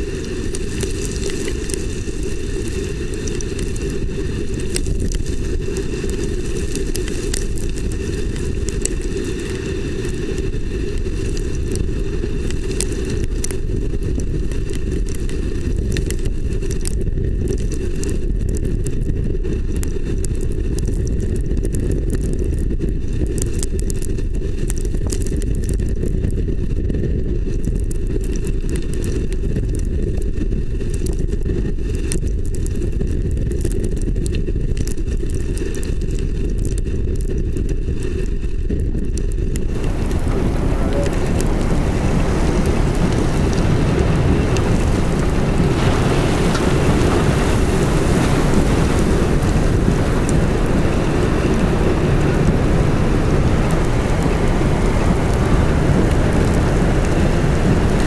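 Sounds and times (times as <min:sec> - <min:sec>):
rain ticking on metal: 0:00.0 - 0:58.0
wind rumble on microphone: 0:00.0 - 0:58.0.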